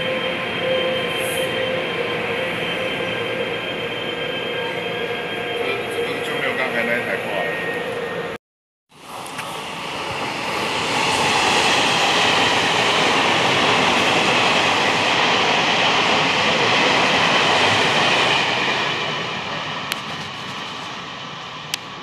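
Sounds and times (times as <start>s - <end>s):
train passing on rails: 0.0s - 22.0s.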